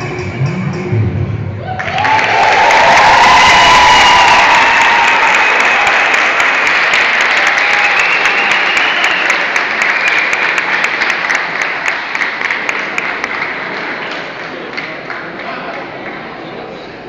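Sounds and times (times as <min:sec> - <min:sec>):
audience applauding and cheering: 0:01.5 - 0:15.4.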